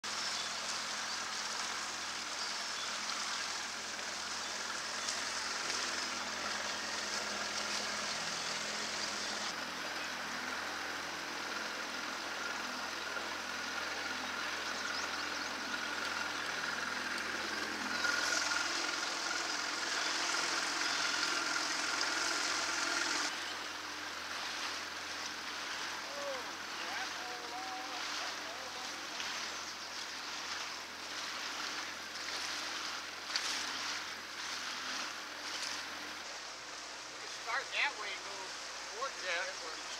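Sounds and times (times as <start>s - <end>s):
outboard motor running: 0.0s - 39.9s
water rushing past hull: 0.0s - 39.9s
wind: 0.0s - 39.9s.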